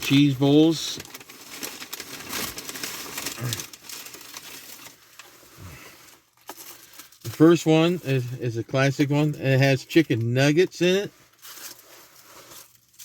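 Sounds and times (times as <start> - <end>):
food packaging crinkling: 0.0 - 13.0.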